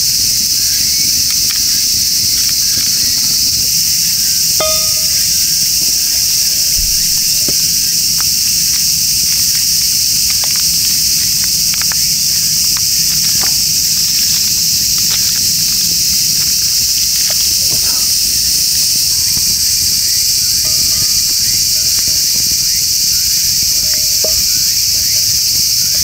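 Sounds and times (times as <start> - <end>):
cicadas singing loudly: 0.0 - 26.0
campfire crackling and popping: 0.1 - 25.2.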